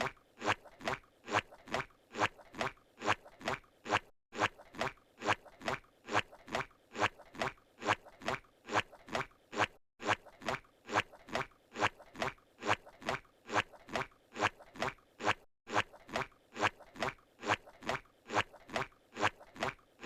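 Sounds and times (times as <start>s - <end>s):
squishy cartoon footsteps: 0.0s - 20.0s.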